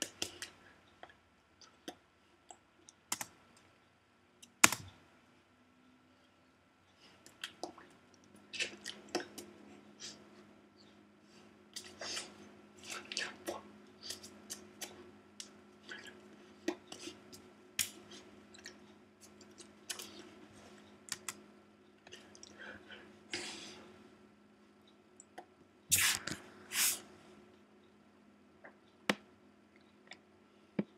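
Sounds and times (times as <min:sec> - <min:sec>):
low steady hum: 0:00.0 - 0:30.9.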